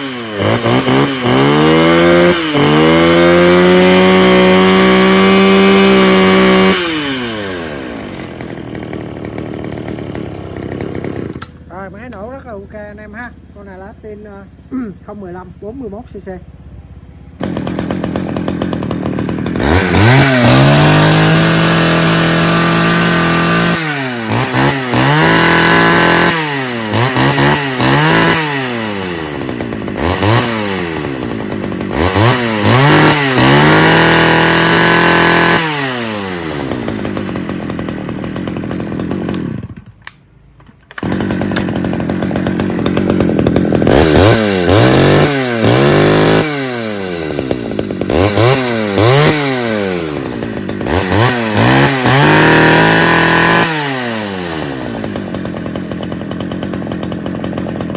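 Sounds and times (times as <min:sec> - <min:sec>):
chainsaw engine revving: 0:00.0 - 0:12.3, 0:17.4 - 0:57.9.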